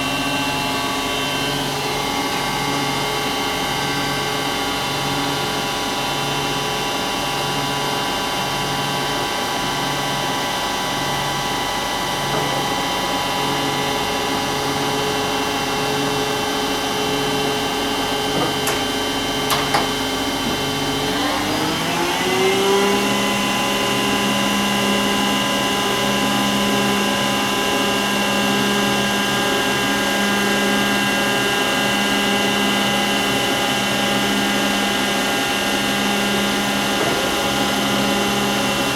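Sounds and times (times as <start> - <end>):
lathe machine whine: 0.0 - 38.9.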